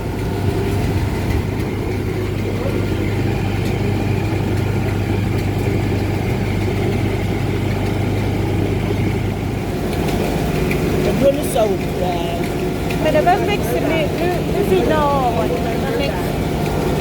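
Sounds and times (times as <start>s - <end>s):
feed mill motor droning: 0.0s - 17.0s.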